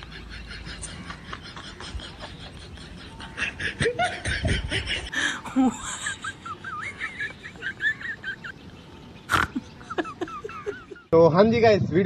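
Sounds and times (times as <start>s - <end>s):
woman laughing: 0.0s - 11.1s.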